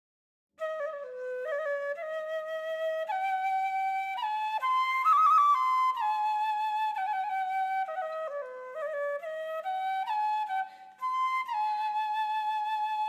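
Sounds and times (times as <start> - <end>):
solo flute melody: 0.6 - 13.0.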